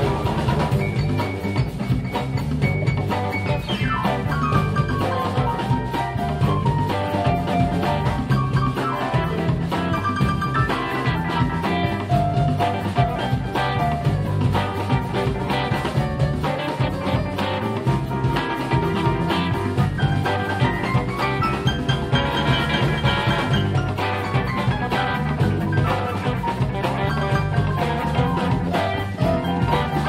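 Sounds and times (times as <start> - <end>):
bass and drum groove: 0.0 - 30.0.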